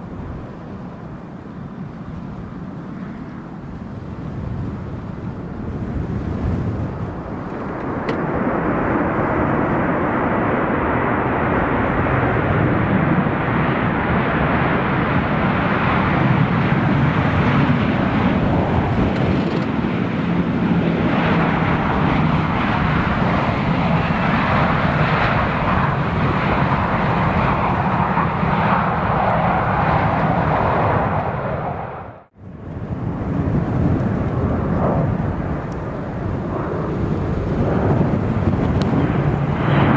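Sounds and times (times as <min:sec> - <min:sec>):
airliner engines running: 0:00.0 - 0:39.9.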